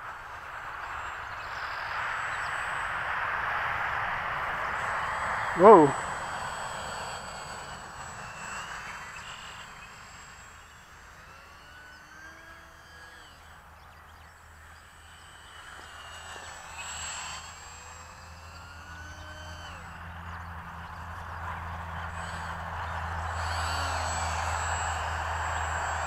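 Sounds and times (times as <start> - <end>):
distant model plane motor whine: 0.0 - 26.0.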